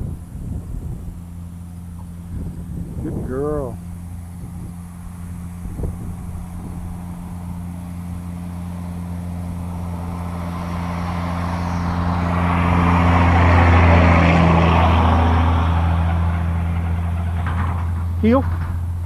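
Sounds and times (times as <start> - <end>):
vehicle engine humming: 0.0 - 19.0
rushing noise: 1.0 - 19.0.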